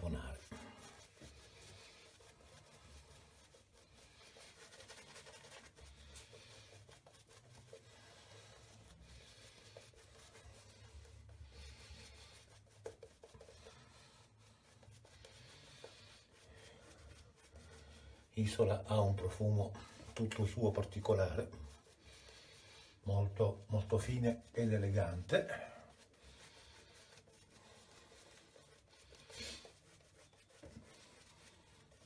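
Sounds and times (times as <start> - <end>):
shaving brush swishing on face: 0.0 - 32.0.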